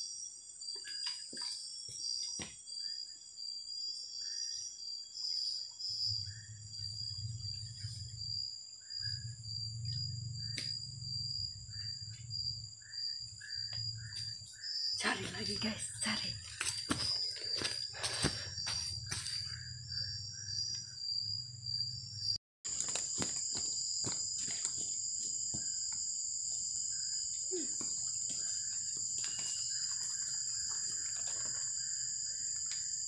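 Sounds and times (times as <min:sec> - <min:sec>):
insects chirping: 0:00.0 - 0:33.0
insects ringing: 0:00.0 - 0:33.0.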